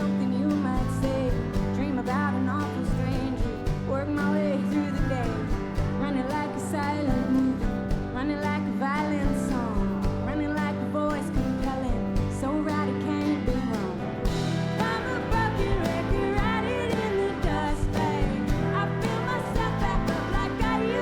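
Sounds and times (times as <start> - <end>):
bending melodic guitar line: 0.0 - 21.0
live country-rock band: 0.0 - 21.0.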